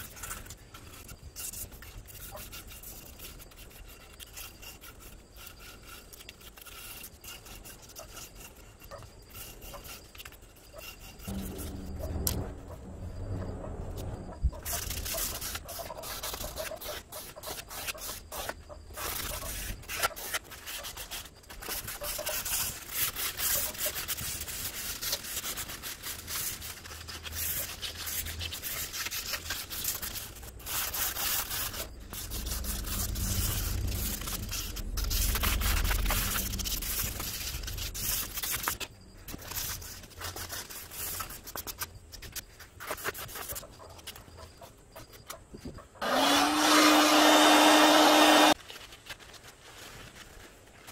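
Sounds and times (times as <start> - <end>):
sandpaper rubbing on wood: 0.0 - 12.0, 14.6 - 41.9, 42.8 - 44.2, 46.0 - 48.6.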